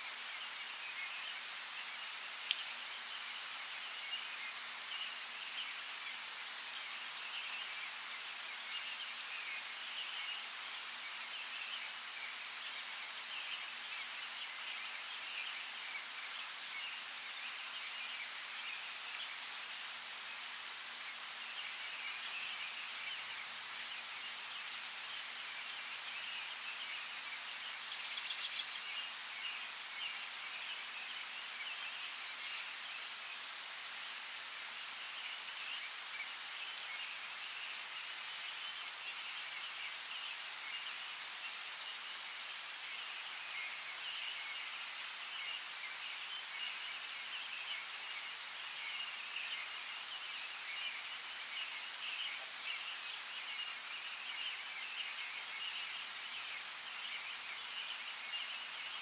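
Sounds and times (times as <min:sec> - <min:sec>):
rain hiss: 0:00.0 - 0:59.0
small birds chirping: 0:00.1 - 0:59.0.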